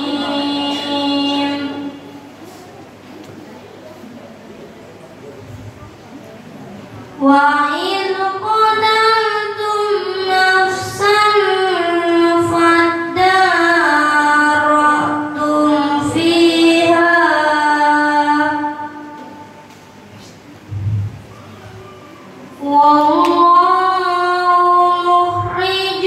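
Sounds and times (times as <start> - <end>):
boy chanting recitation: 0.0 - 2.8, 7.0 - 26.0.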